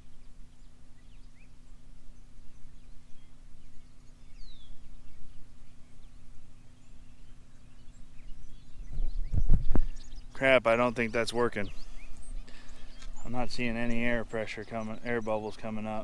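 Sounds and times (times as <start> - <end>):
bird chirps: 0.0 - 16.0
generator and compressor humming: 0.0 - 16.0.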